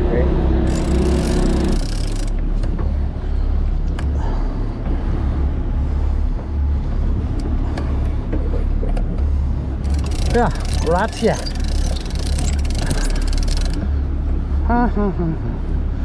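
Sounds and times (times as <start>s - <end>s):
boat engine running: 0.0s - 14.6s.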